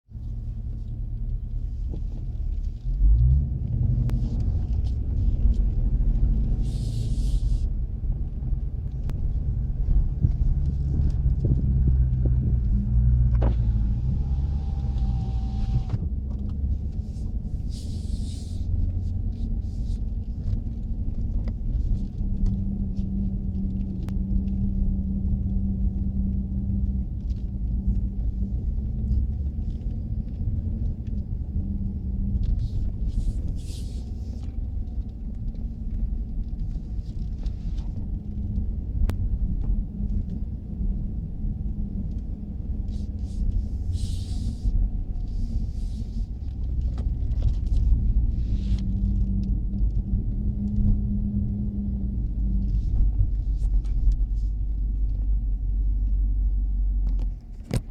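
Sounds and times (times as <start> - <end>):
car engine low rumble: 0.0 - 57.9.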